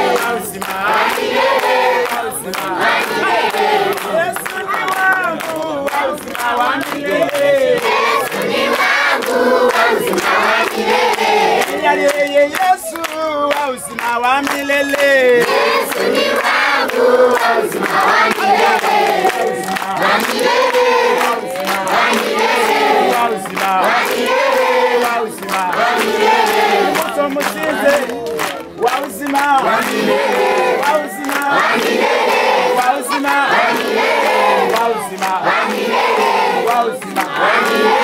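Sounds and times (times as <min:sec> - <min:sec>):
crowd praying or singing: 0:00.0 - 0:38.0.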